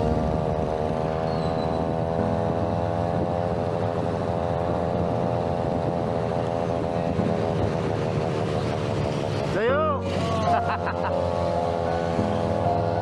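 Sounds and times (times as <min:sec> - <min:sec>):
two-stroke scooter engine running: 0:00.0 - 0:13.0.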